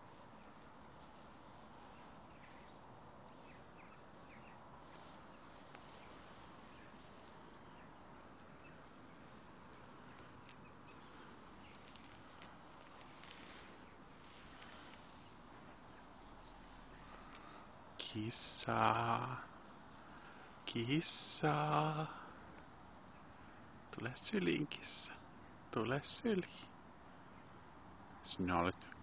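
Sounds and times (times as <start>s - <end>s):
faint outdoor background hiss: 0.0s - 29.0s.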